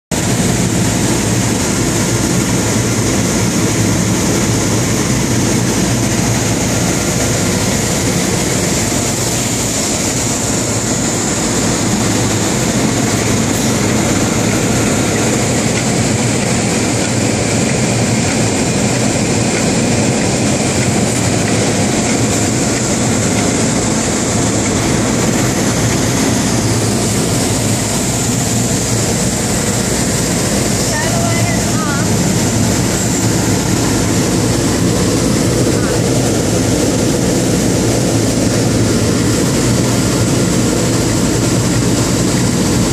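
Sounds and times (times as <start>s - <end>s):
woodworking machinery humming: 0.1s - 42.9s.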